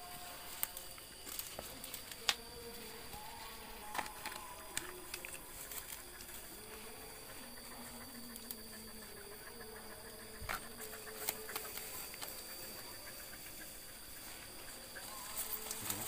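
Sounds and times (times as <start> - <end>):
dogs digging and rustling: 0.0 - 16.0.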